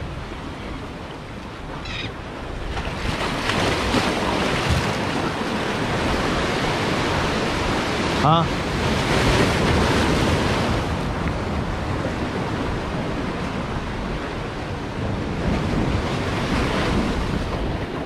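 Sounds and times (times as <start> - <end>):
wind buffeting microphone: 0.0 - 18.0
surf breaking against rocks: 2.5 - 18.0.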